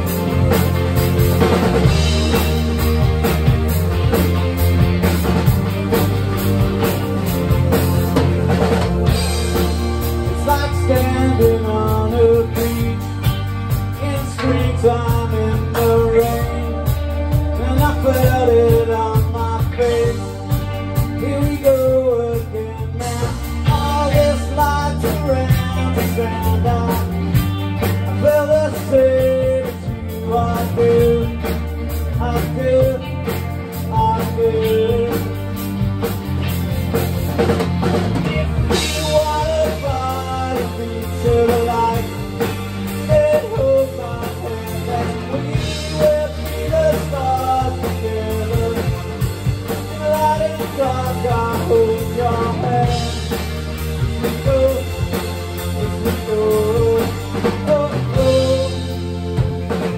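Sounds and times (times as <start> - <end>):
drum kit: 0.0 - 59.9
electric guitars: 0.0 - 59.9
lead vocal singing: 8.5 - 35.6, 38.1 - 59.4.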